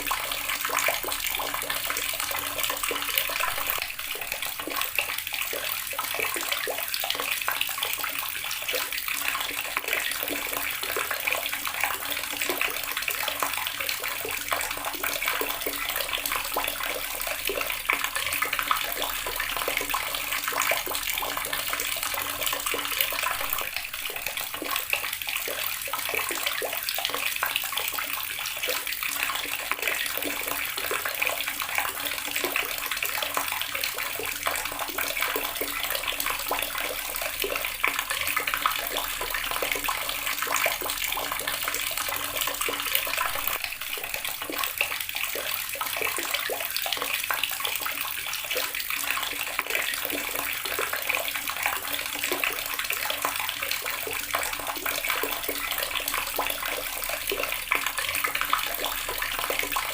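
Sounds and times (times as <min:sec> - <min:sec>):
tap water splashing into basin: 0:00.0 - 0:59.9.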